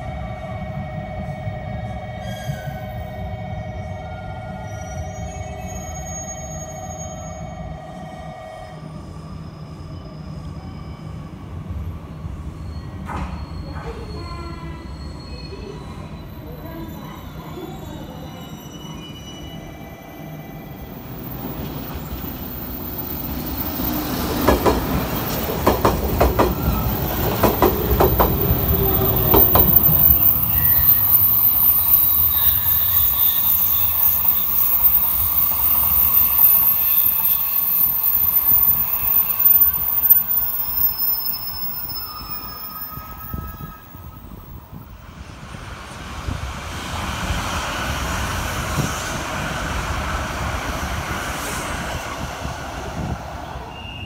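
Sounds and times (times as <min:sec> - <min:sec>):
low train rumble: 0:00.0 - 0:54.0
train wheels squealing: 0:00.0 - 0:54.0.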